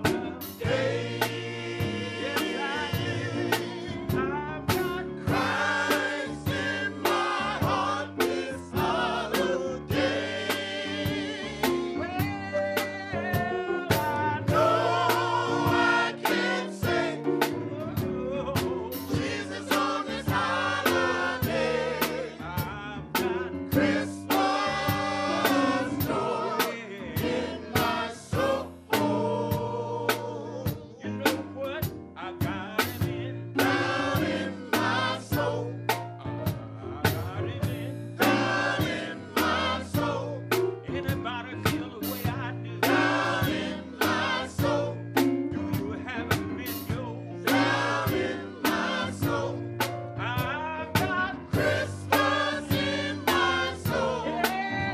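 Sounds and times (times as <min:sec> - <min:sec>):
instrumental accompaniment: 0:00.0 - 0:54.9
men's choir singing gospel: 0:00.0 - 0:54.9
steady percussive beat: 0:00.0 - 0:54.9.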